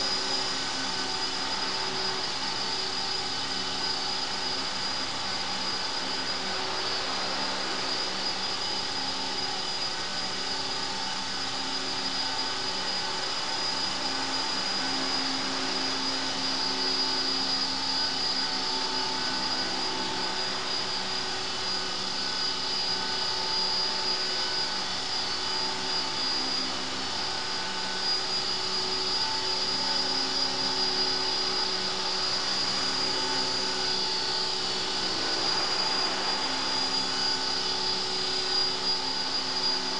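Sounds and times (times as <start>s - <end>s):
rc helicopter motor whine: 0.0s - 39.9s.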